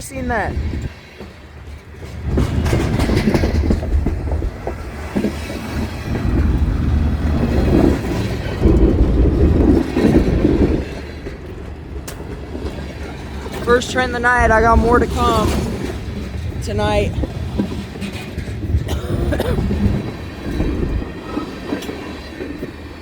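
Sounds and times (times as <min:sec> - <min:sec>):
freight train rumbling by: 0:00.0 - 0:23.0
wheels clacking over rail joints: 0:00.0 - 0:23.0.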